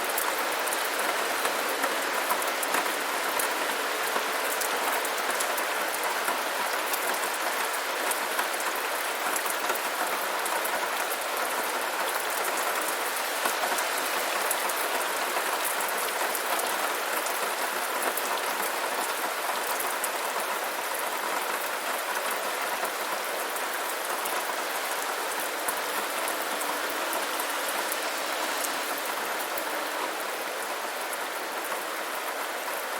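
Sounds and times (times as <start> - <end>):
steady rainfall: 0.0 - 32.9.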